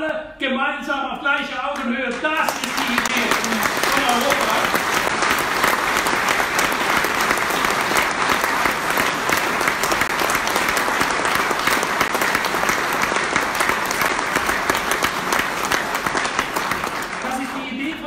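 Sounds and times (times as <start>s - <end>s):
large audience applauding: 1.8s - 18.0s.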